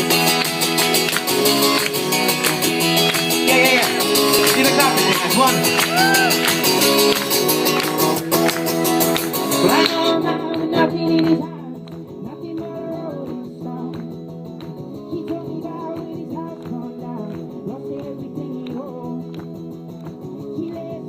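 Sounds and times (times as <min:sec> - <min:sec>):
acoustic guitar strummed: 0:00.0 - 0:21.0.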